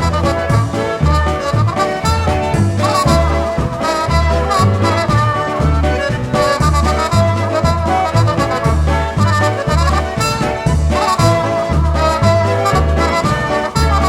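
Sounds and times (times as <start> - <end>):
polka band playing: 0.0 - 14.0.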